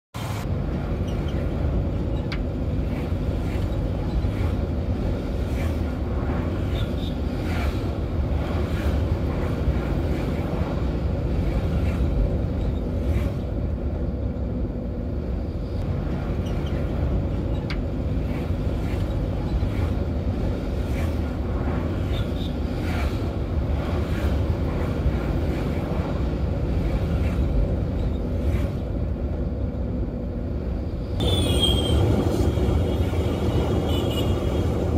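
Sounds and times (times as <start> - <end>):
road traffic rumble: 0.2 - 34.9.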